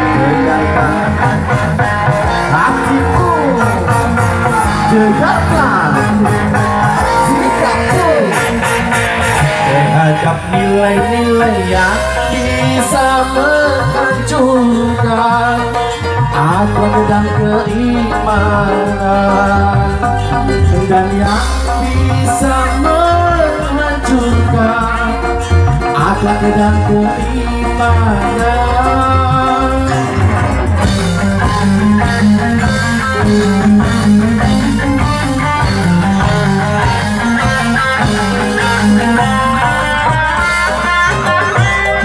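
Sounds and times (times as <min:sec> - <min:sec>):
electric guitar playing: 0:00.0 - 0:42.0
live band music over pa: 0:00.0 - 0:42.0.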